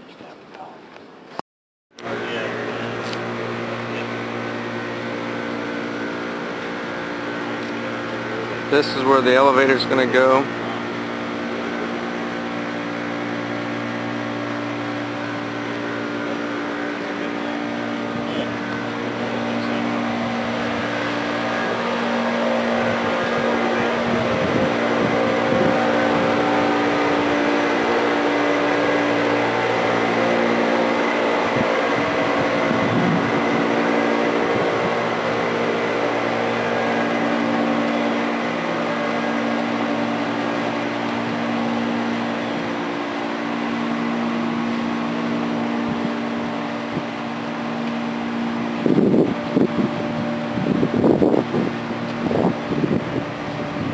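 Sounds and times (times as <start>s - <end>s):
constant rushing air noise: 2.0s - 53.9s
machinery hum with fixed tones: 2.0s - 53.9s.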